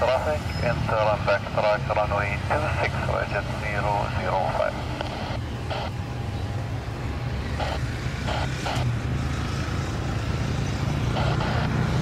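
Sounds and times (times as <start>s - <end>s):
distant aircraft engine drone: 0.0s - 12.0s.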